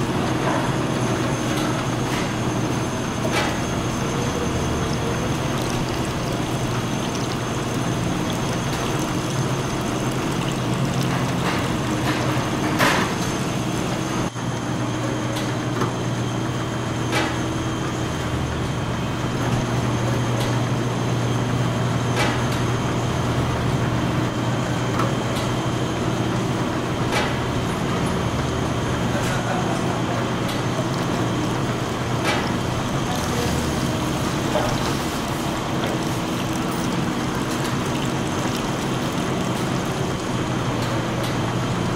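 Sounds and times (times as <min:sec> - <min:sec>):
machinery hum and hiss: 0:00.0 - 0:41.9.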